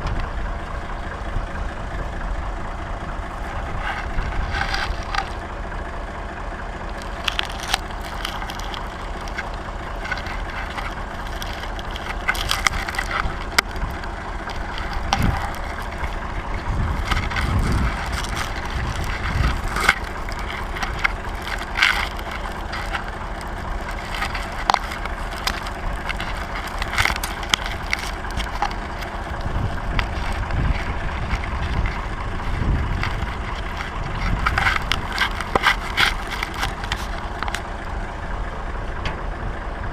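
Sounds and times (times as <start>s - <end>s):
tractor engine running: 0.0s - 39.9s
sharp rattles and knocks: 3.1s - 5.8s, 6.8s - 38.2s.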